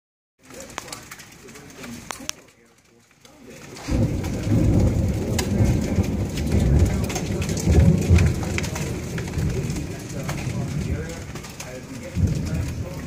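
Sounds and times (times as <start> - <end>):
continuous low rumble: 0.4 - 13.0
hail and rain on wooden deck: 0.4 - 13.0.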